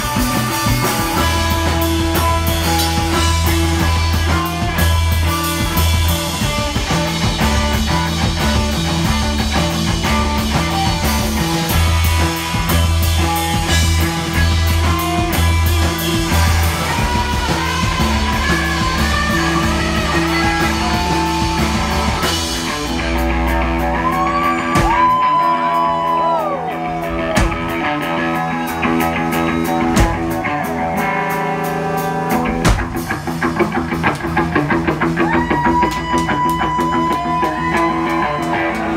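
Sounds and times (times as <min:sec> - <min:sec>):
bass: 0:00.0 - 0:38.9
drum kit: 0:00.0 - 0:38.9
electric guitars: 0:00.0 - 0:38.9.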